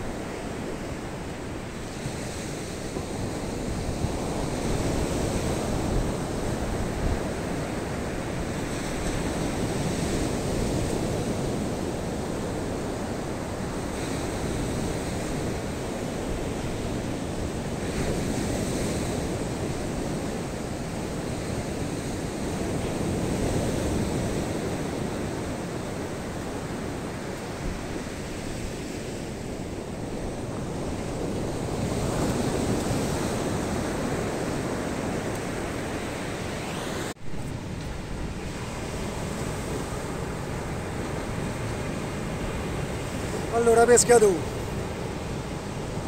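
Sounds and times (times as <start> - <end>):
sea surf breaking on beach: 0.0 - 46.0
wind rumbling on microphone: 0.0 - 46.0.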